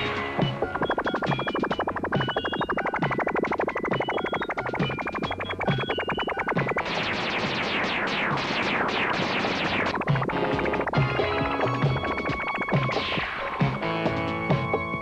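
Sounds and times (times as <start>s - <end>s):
noisy wash with downward sweeps: 0.0s - 14.0s
synthesizer pulsing note pattern: 0.0s - 15.0s.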